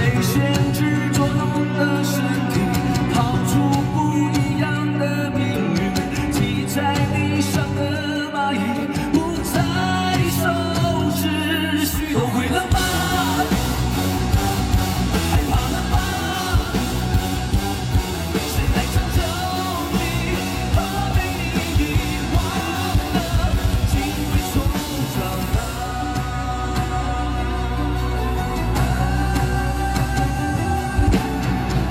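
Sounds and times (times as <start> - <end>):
drums: 0.0 - 31.9
electric guitars: 0.0 - 31.9.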